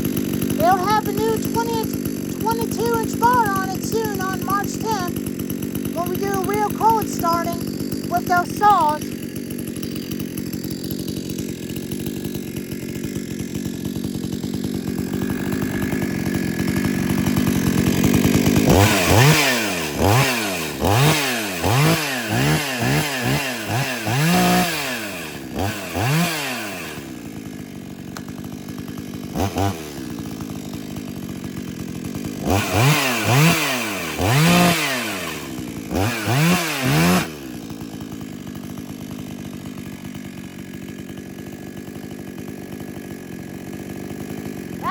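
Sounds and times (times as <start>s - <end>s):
chainsaw engine idling and revving: 0.0s - 44.9s.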